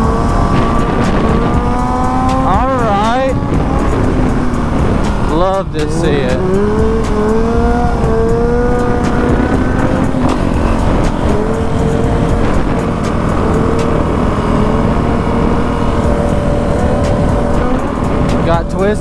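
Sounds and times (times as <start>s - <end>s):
dirt bike engine droning: 0.0s - 19.0s
wind rumble on microphone: 0.0s - 19.0s.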